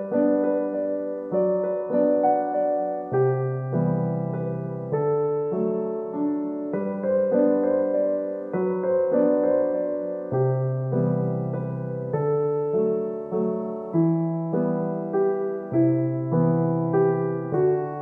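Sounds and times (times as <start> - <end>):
gentle solo piano music: 0.0 - 18.0.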